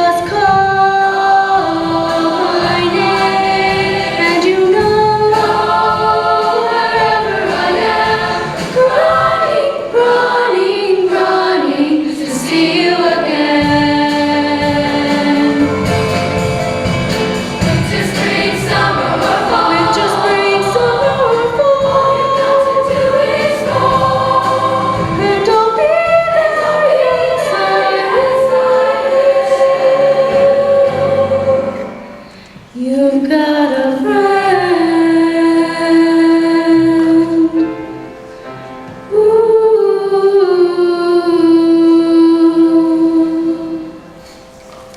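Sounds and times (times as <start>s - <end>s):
choir singing in harmony: 1.0s - 37.6s.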